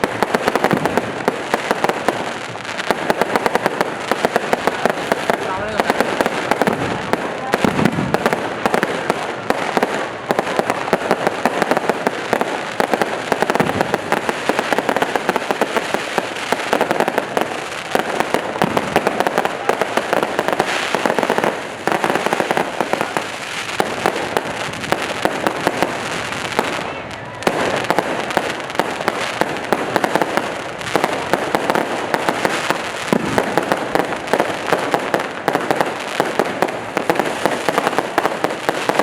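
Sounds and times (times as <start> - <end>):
fireworks bangs and pops: 0.0 - 39.0.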